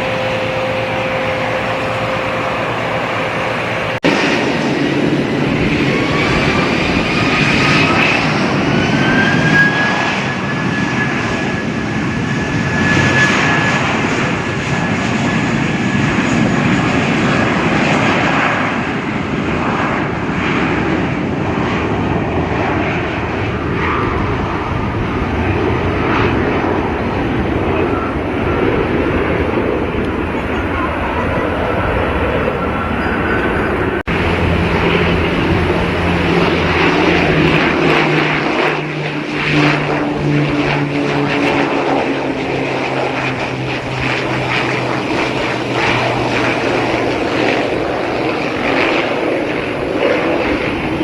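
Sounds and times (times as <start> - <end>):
jet engines whining: 0.0 - 51.0.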